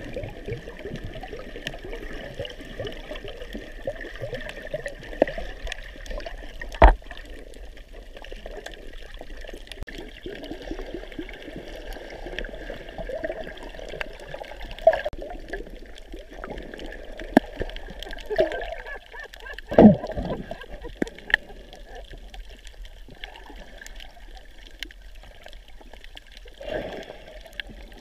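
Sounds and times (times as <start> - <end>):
muffled underwater wash: 0.0 - 28.0.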